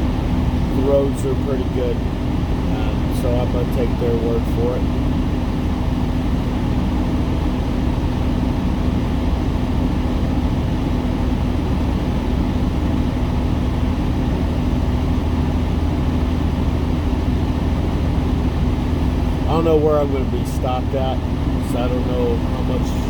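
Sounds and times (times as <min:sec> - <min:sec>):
diesel engine idling: 0:00.0 - 0:23.0
heater blower running: 0:00.0 - 0:23.0.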